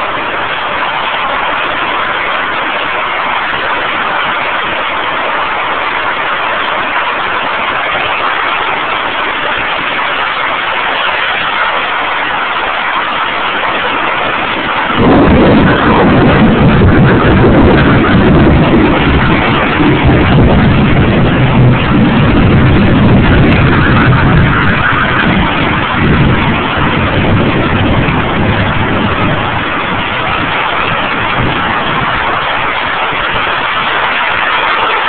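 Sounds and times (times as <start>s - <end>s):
heavy rain hissing: 0.0s - 35.0s
rolling thunder rumble: 0.0s - 35.0s.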